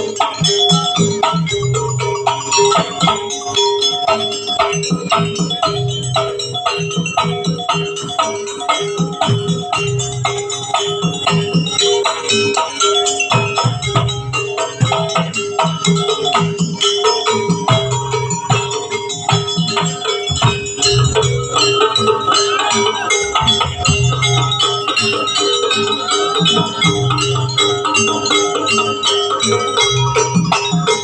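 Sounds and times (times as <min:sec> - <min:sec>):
drums: 0:00.0 - 0:31.0
gongs: 0:00.0 - 0:31.0
struck metal percussion: 0:00.0 - 0:31.0.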